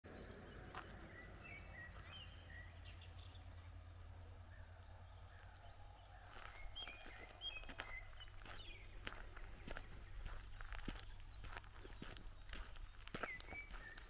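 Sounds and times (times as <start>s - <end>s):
faint songbirds chirping: 0.0s - 14.0s
steady low rumble: 0.1s - 14.0s.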